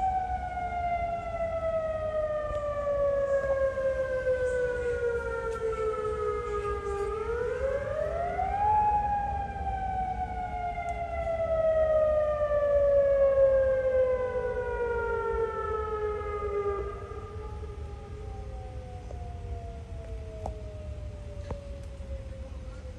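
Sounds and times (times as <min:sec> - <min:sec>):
faint second siren: 0:00.0 - 0:22.9
wailing warning siren: 0:00.0 - 0:22.9.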